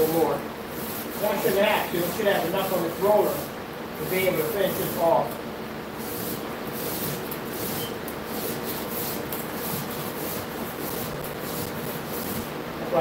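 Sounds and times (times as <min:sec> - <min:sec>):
paint roller rolling on panel: 0:00.0 - 0:05.3, 0:06.0 - 0:12.5.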